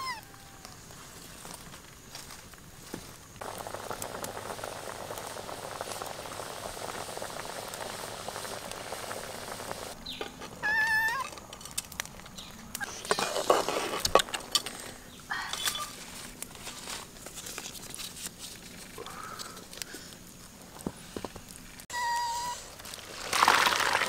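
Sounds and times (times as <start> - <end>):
water boiling and bubbling: 3.4 - 14.9, 16.2 - 24.0.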